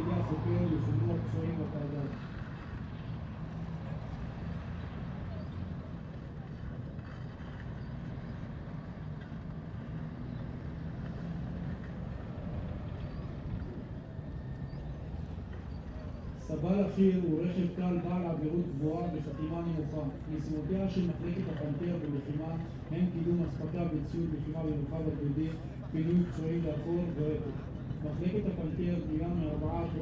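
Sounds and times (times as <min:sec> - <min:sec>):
tank diesel engine running: 0:00.0 - 0:30.0.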